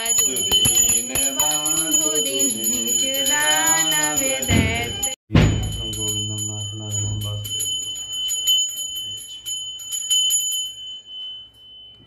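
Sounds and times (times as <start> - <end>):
brass hand bell ringing rapidly: 0.0 - 11.3.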